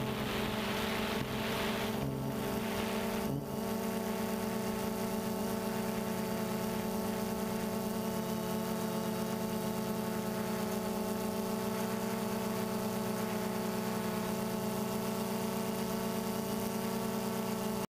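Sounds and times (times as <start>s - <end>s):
drone propellers buzzing: 0.0s - 17.2s.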